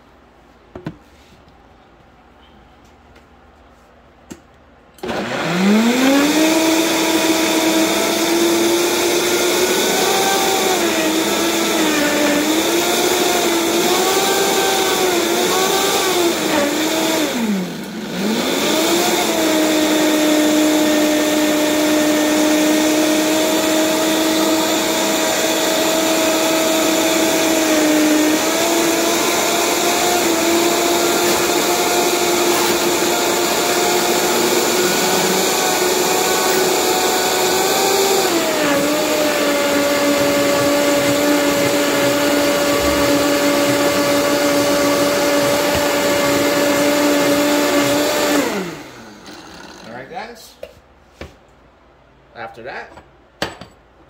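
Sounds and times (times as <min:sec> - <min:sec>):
blender motor spinning: 0:05.0 - 0:50.0.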